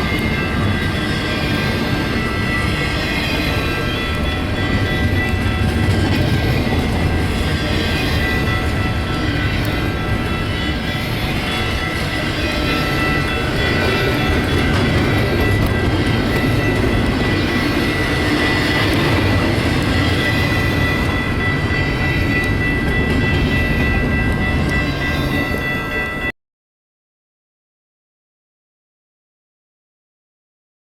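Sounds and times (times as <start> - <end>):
freight train rumble: 0.0 - 26.3
high-pitched ringing: 0.0 - 26.3.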